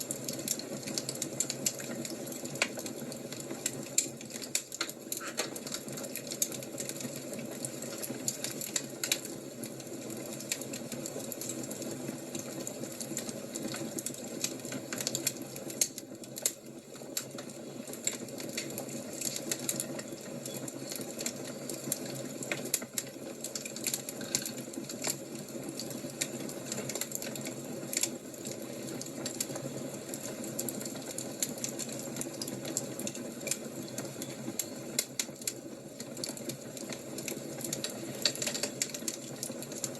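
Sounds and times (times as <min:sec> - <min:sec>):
fire pops and snaps: 0:00.0 - 0:39.9.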